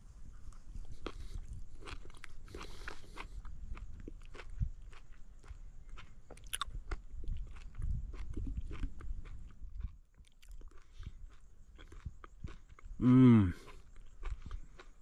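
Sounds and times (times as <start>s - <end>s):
man chewing with clicks and crunches: 0.2s - 15.0s.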